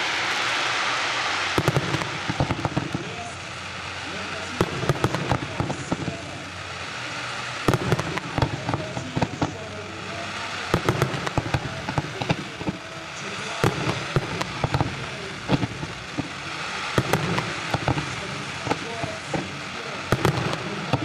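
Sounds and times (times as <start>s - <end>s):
fireworks bangs and cracks: 0.0s - 21.0s
steady background rumble: 1.4s - 21.0s.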